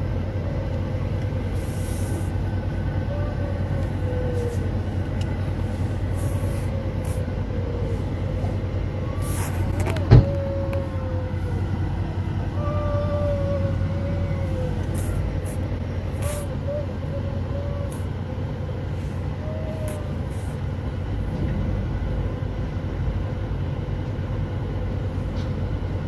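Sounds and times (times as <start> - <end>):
vehicle rumble from inside: 0.0 - 26.0.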